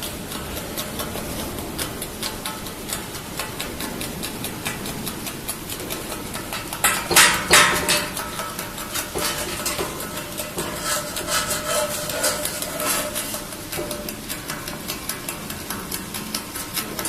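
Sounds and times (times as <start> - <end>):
arc welding crackling: 0.0 - 17.0
machine hum: 0.0 - 17.0.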